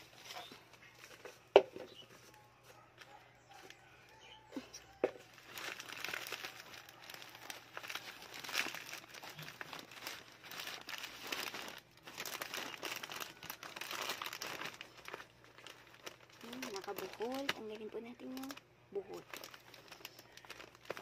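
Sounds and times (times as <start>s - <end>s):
wrapping paper crinkling: 0.0s - 21.0s.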